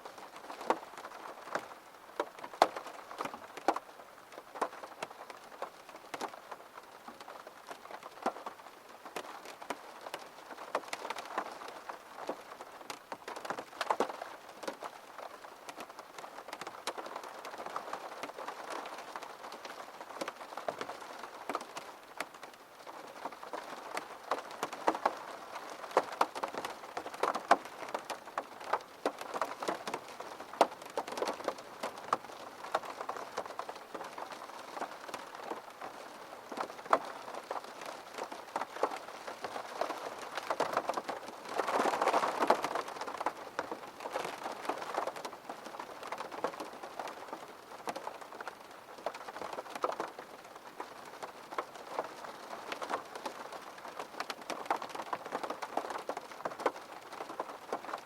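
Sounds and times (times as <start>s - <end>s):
raindrops tapping close by: 0.0s - 58.0s
steady rain hiss: 0.0s - 58.0s.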